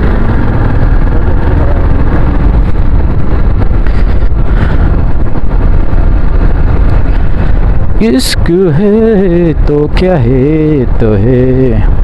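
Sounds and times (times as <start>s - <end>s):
motorcycle running on road: 0.0s - 12.0s
wind rush on microphone: 0.0s - 12.0s.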